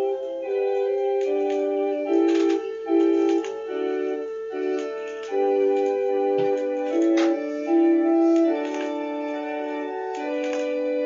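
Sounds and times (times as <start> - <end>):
keyboard playing held chords: 0.0 - 11.0.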